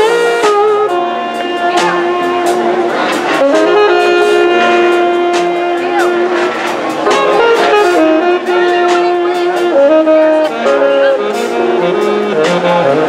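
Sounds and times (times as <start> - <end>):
jazz music with horns: 0.0 - 13.0.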